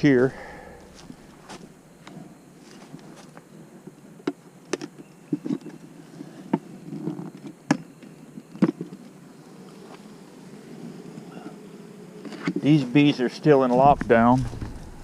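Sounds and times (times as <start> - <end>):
honey bees humming: 0.0 - 15.0.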